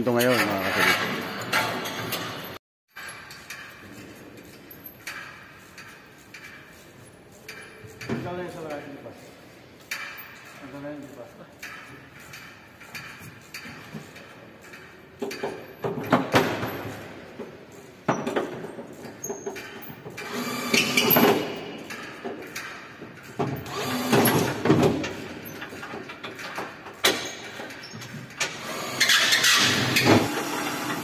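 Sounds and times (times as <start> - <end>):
metal tools clanking and scraping: 0.0 - 31.0.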